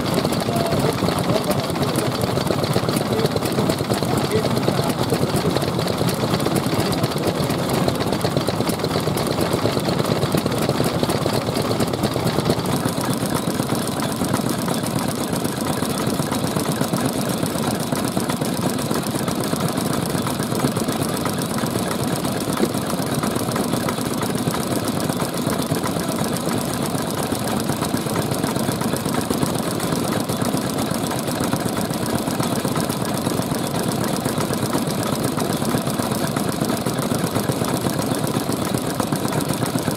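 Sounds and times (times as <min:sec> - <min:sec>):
stationary engines chugging: 0:00.0 - 0:39.9.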